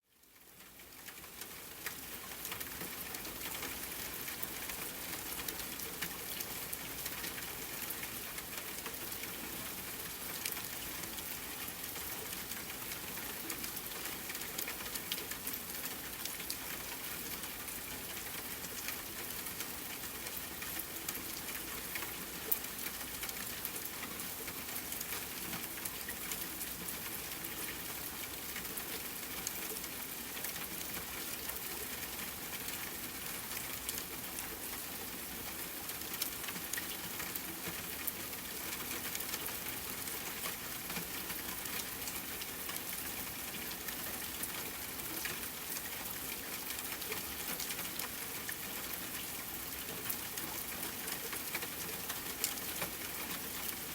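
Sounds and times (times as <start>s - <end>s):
rain on a tent: 0.0s - 53.9s.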